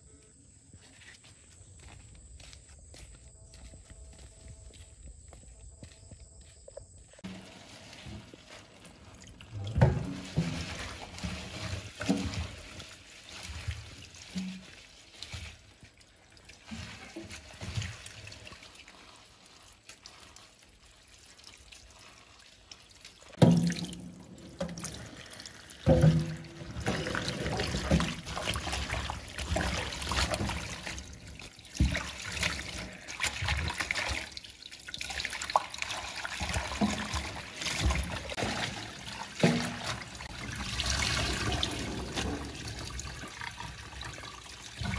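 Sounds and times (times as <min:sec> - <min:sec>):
hands rinsing leaves: 0:07.2 - 0:44.9.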